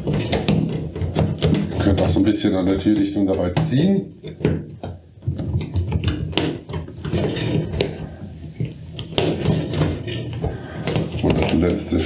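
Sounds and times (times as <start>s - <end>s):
rubber seal rubbing: 0.0s - 12.0s.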